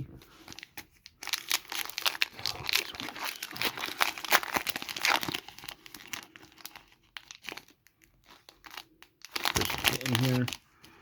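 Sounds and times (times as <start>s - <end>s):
foil wrapper crinkling and tearing: 0.2s - 11.0s.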